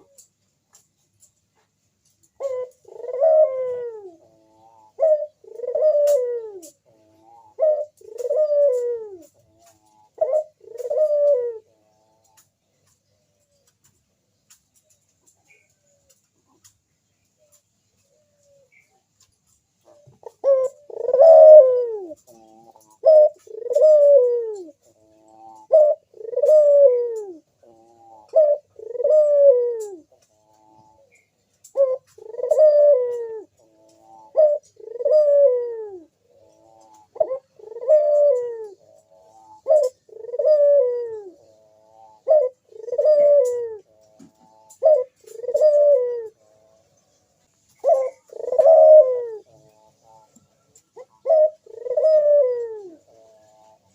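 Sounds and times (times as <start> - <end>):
dove cooing: 0.0 - 0.8, 2.2 - 13.8, 17.4 - 53.9.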